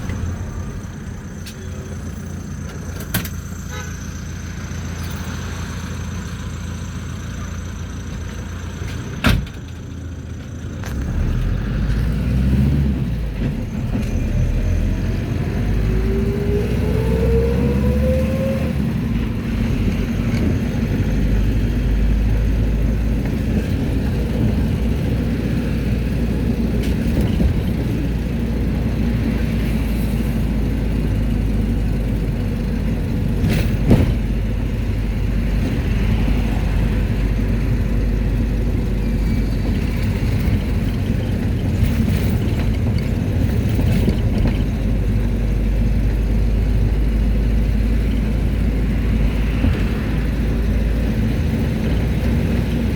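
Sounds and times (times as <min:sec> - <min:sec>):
engine and road rumble: 0:00.0 - 0:52.9.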